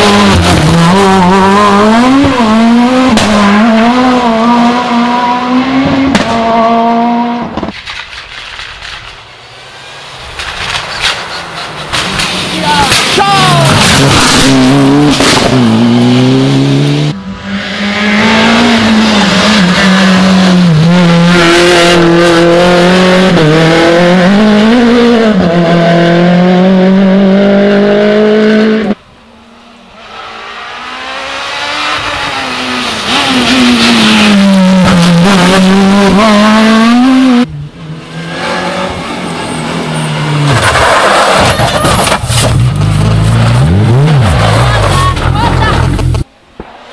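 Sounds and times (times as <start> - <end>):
rally car engines revving past: 0.0 - 7.7, 8.8 - 46.9.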